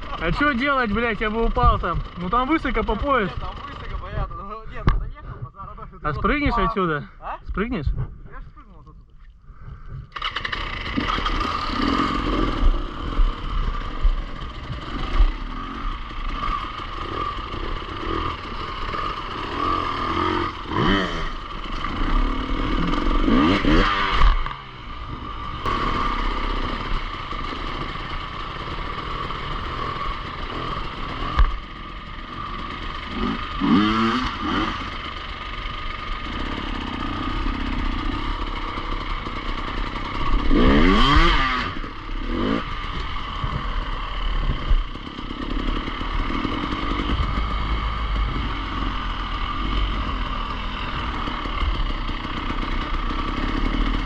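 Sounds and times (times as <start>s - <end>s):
motorcycle engine revving: 0.0s - 7.0s, 9.8s - 54.0s.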